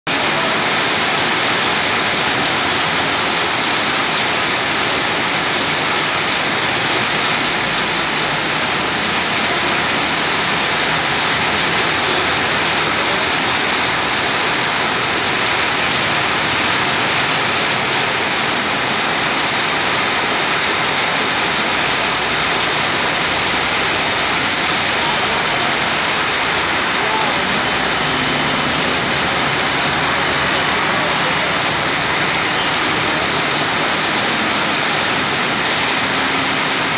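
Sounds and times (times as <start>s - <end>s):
heavy rain on a wet road: 0.1s - 36.9s.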